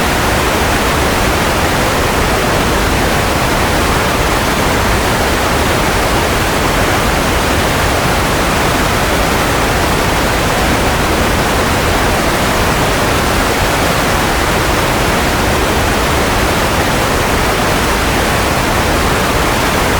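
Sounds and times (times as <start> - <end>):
white noise hiss: 0.0 - 19.9.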